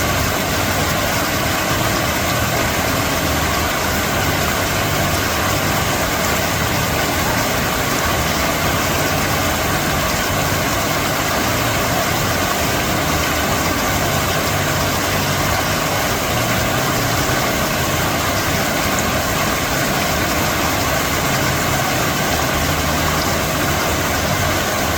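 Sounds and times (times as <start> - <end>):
water fountain splashing: 0.0 - 24.9.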